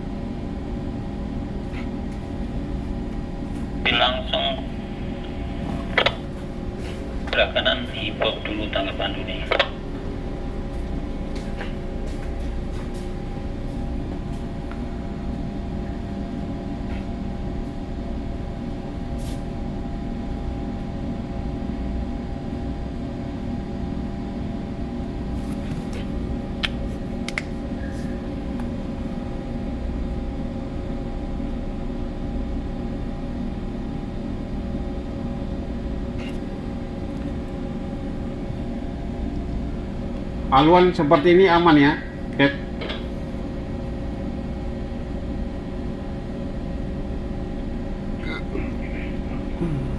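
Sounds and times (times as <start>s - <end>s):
ship machinery humming: 0.0s - 29.9s, 34.2s - 49.9s.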